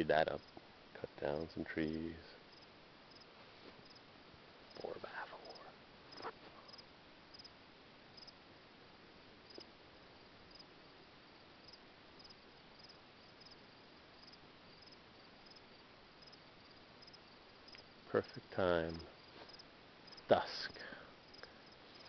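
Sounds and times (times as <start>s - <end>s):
low steady hiss: 0.0s - 22.0s
crickets chirping: 0.4s - 0.6s, 2.5s - 8.4s, 9.4s - 22.0s.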